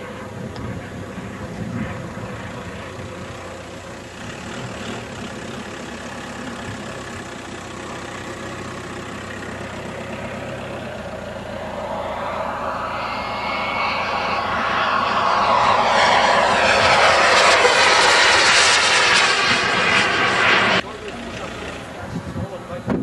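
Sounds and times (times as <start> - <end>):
turbine whine: 0.0 - 23.0.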